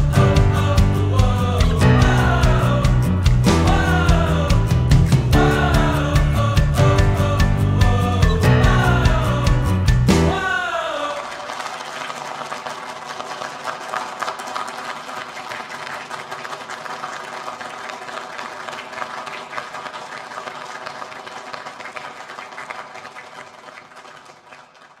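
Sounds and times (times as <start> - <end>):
crowd cheering and applauding: 0.0 - 25.0.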